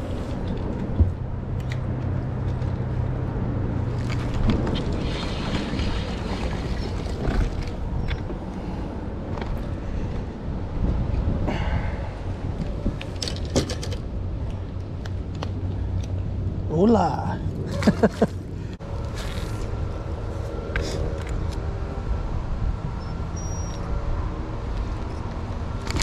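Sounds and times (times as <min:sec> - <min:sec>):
gusty wind: 0:00.0 - 0:26.0.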